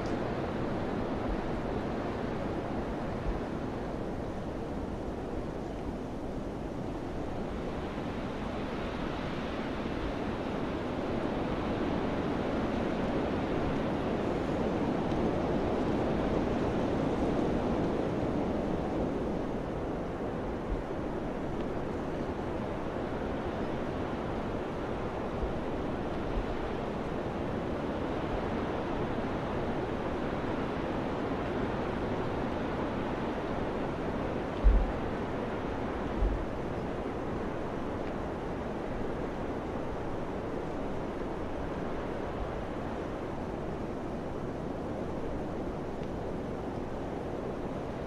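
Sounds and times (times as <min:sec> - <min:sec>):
rushing wind in gusts: 0:00.0 - 0:48.0.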